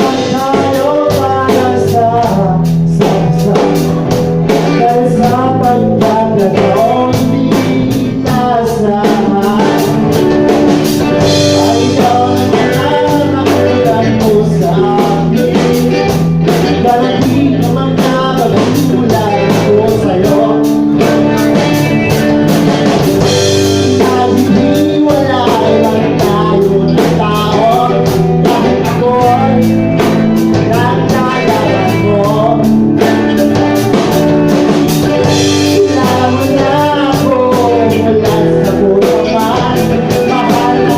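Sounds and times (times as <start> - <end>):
bass guitar: 0.0 - 40.9
drum kit steady beat: 0.0 - 40.9
electric guitar: 0.0 - 40.9
person singing: 0.0 - 40.9.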